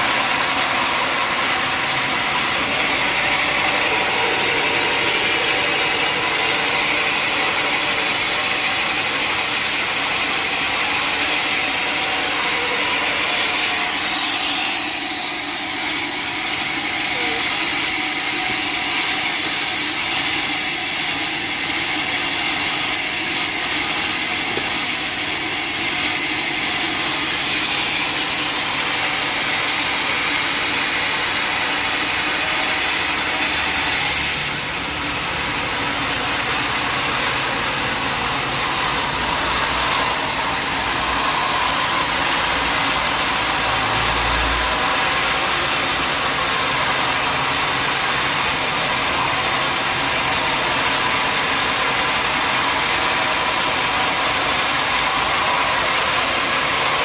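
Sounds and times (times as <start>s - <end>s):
engine-driven saw whining: 0.0s - 57.0s.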